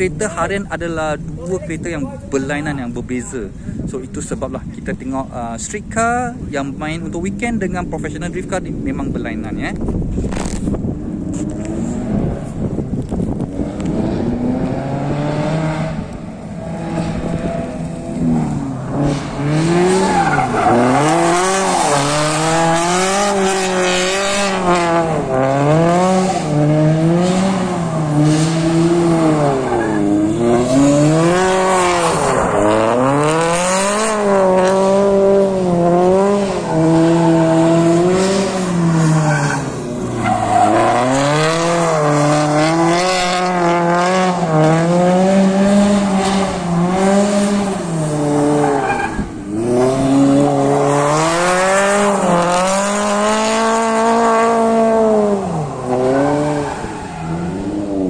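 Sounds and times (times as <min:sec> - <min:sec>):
car engine revving: 0:10.2 - 0:58.0.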